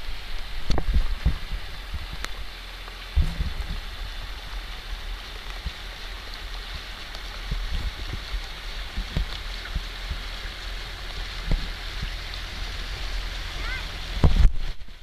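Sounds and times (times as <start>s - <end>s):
low rumble: 0.0s - 15.0s
rain falling on lake water: 0.0s - 15.0s.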